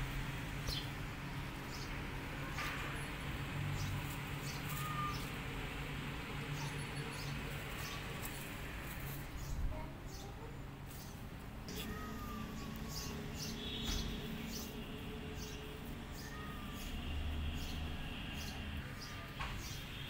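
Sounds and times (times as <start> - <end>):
birds chirping: 3.8 - 20.0.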